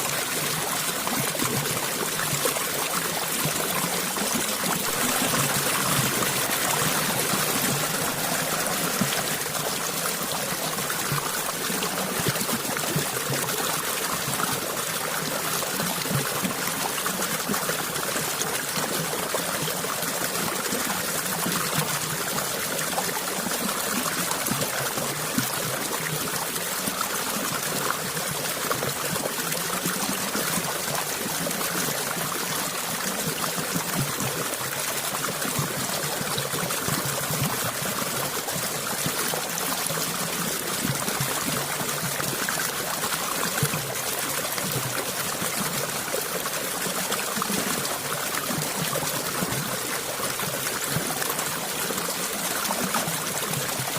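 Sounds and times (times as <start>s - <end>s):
stream water flowing: 0.0s - 53.9s.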